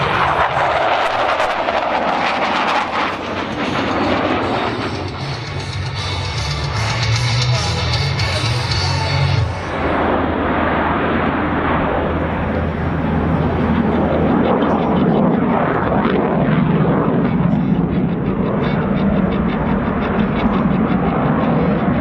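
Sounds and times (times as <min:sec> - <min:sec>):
fighter jet engine roar: 0:00.0 - 0:22.0.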